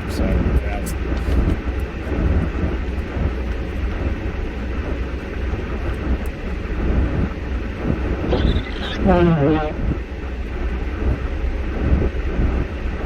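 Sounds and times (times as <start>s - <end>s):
vehicle rumble from inside cabin: 0.0s - 13.0s.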